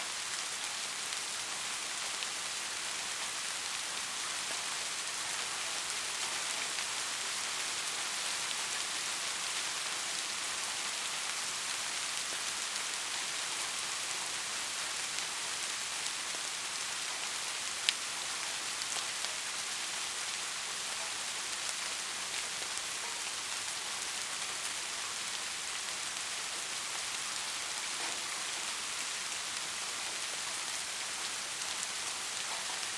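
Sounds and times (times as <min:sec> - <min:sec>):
steady rain falling: 0:00.0 - 0:32.9.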